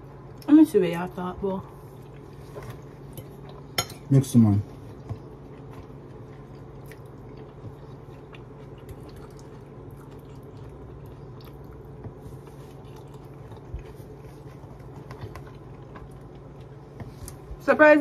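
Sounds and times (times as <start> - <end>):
steady low hum: 0.0 - 18.0
person chewing food: 1.7 - 4.1, 4.7 - 17.6.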